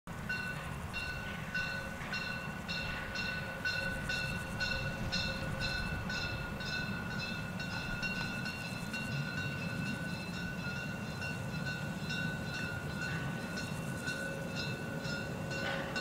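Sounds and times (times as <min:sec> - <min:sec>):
steam locomotive running: 0:00.1 - 0:16.0.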